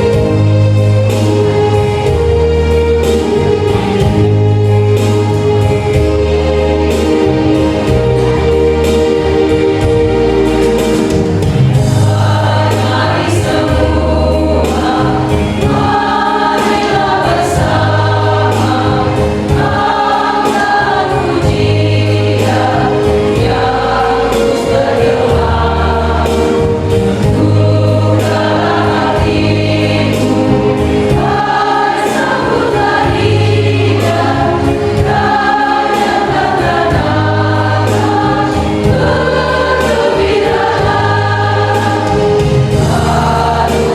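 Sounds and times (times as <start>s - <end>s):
choir singing a hymn: 0.0s - 43.9s
instrumental accompaniment: 0.0s - 43.9s.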